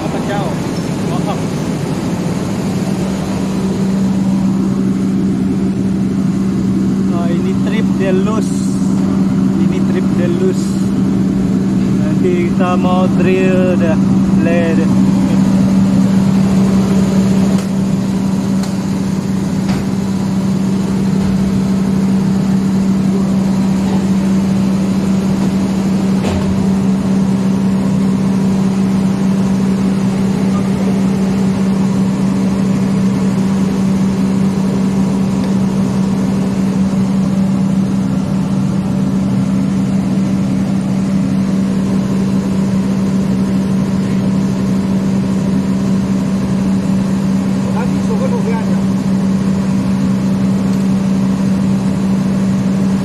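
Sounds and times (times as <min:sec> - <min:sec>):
engine droning: 0:00.0 - 0:53.0.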